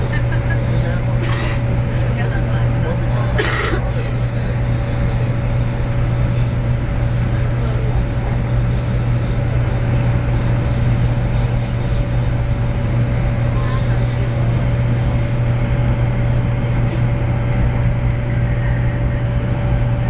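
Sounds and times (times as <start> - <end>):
train cabin rumble: 0.0 - 20.0.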